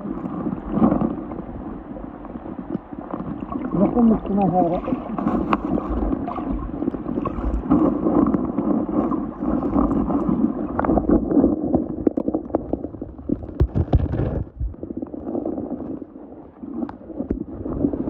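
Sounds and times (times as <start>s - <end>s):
water sloshing and gurgling: 0.0s - 18.0s
wind on microphone: 0.0s - 18.0s.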